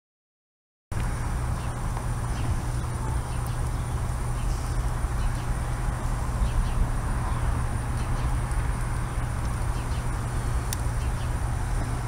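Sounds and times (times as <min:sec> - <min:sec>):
diesel locomotive engine droning: 0:01.0 - 0:12.0.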